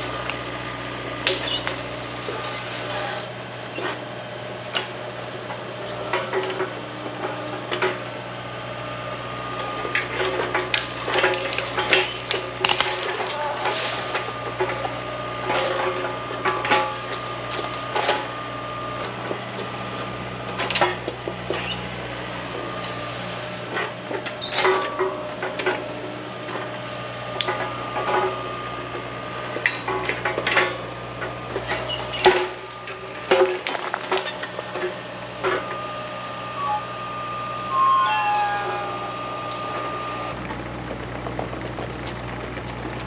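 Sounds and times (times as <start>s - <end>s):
excavator engine running: 0.0s - 43.0s.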